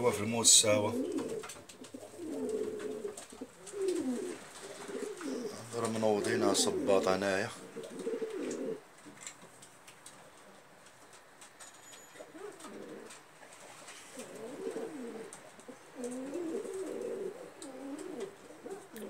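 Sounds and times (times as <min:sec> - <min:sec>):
pigeons cooing: 0:00.0 - 0:08.9, 0:12.2 - 0:19.0.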